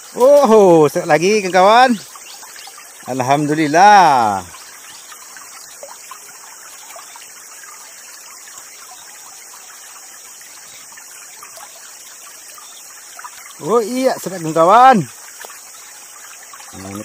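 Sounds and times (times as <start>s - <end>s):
high-pitched hiss: 0.0s - 9.2s, 9.9s - 17.0s
small stream trickling: 0.0s - 17.0s.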